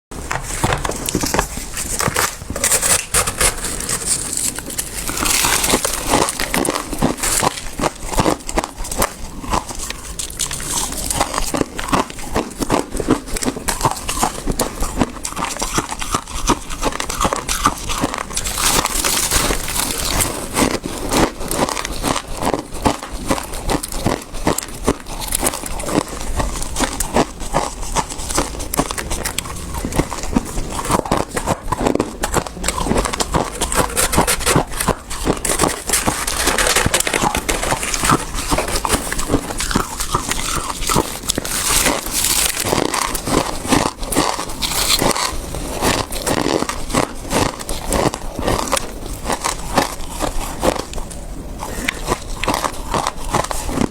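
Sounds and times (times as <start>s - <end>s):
chewing and crunching frost: 0.1s - 53.9s.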